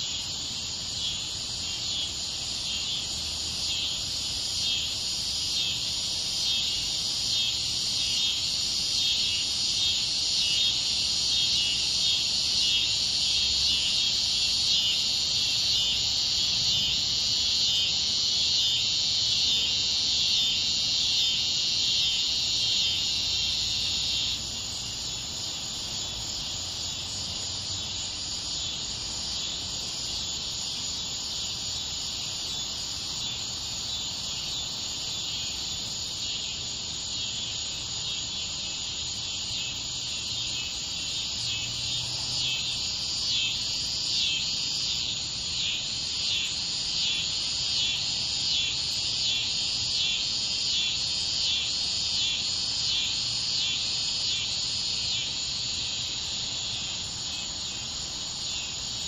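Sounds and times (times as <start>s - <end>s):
insects buzzing and trilling: 0.0s - 59.0s.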